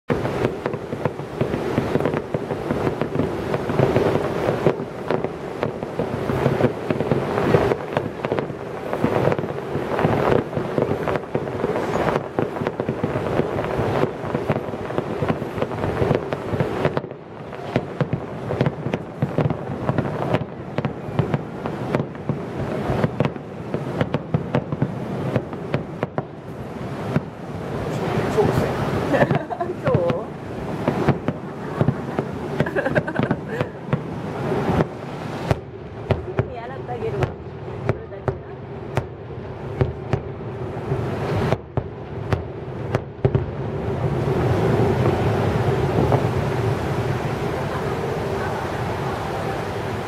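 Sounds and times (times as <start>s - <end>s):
fireworks bursting and crackling: 0.1s - 50.0s.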